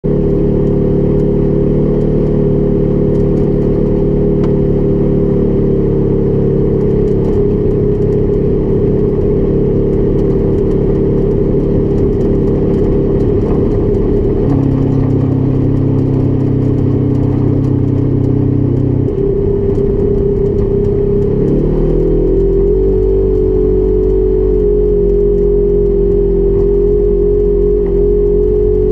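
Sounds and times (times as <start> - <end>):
utility vehicle engine running: 0.0 - 28.9.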